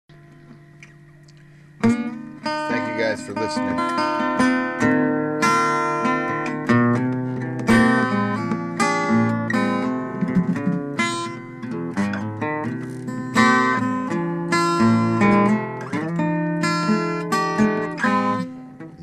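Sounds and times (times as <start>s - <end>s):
acoustic guitar strumming: 0.1s - 19.0s.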